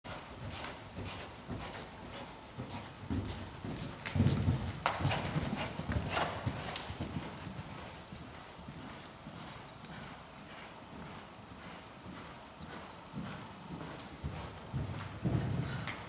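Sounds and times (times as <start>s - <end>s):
horse hoofbeats on sand: 0.1s - 16.0s.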